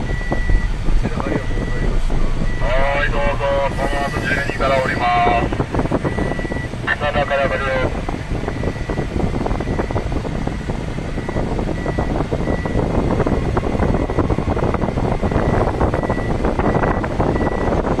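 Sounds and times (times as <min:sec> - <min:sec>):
car driving rumble: 0:00.0 - 0:18.0.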